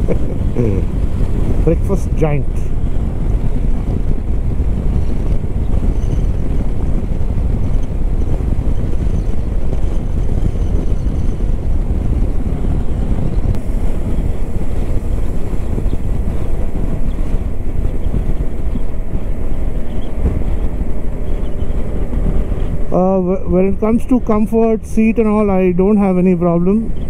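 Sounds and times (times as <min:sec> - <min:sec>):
motorcycle running: 0:00.0 - 0:27.0
wind rush on microphone: 0:00.0 - 0:27.0.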